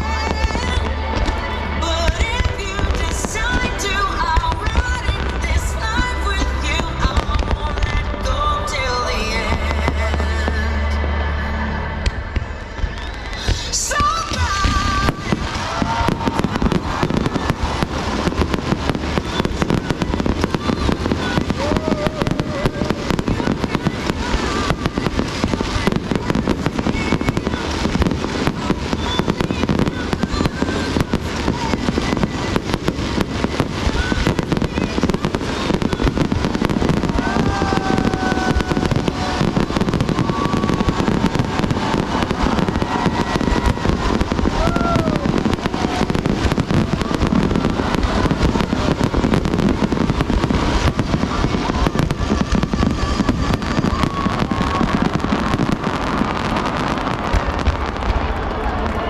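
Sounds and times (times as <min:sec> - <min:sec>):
fireworks bangs and crackling: 0:00.0 - 0:11.3, 0:12.0 - 0:59.0.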